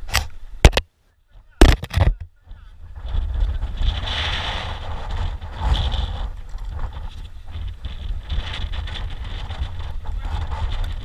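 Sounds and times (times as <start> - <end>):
wind buffeting microphone: 1.5 - 11.0.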